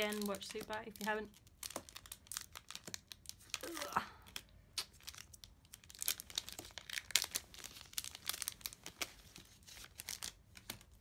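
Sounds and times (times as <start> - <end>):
foil wrapper crinkling and tearing: 0.0 - 11.0.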